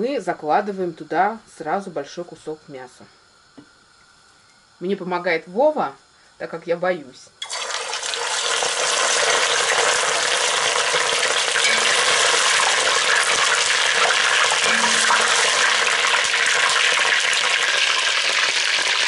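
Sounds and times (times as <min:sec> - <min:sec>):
meat sizzling in hot oil: 0:03.3 - 0:19.0.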